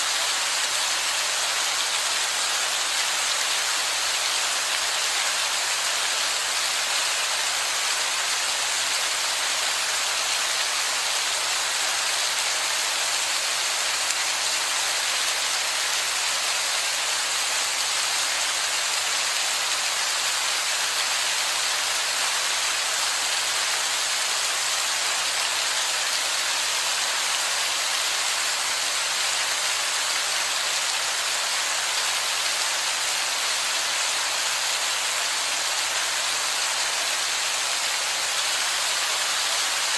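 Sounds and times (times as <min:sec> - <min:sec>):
heavy rain falling on rock: 0:00.0 - 0:39.9.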